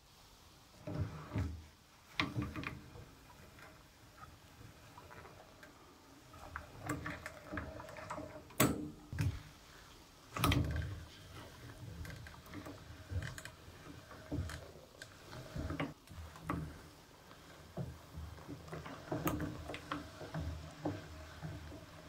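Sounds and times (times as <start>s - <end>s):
wringer clicks and creaks: 2.1s - 9.6s, 10.2s - 22.0s.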